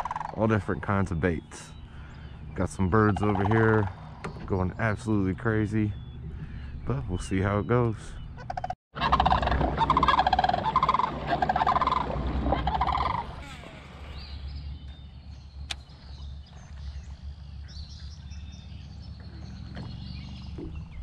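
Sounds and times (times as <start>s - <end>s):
birds calling in rattling bursts: 0.0s - 21.0s.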